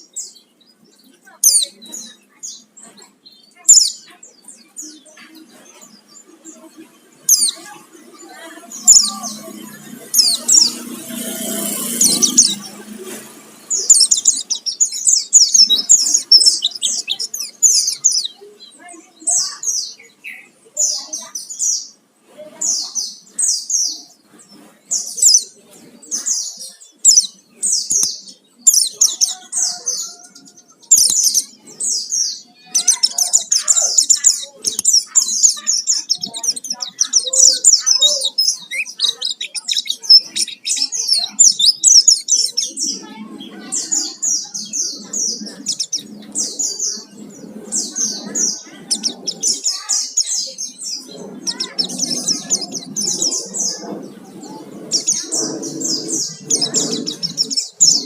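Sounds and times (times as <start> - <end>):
bird singing high chirps: 0.0 - 58.0
low background murmur: 0.0 - 58.0.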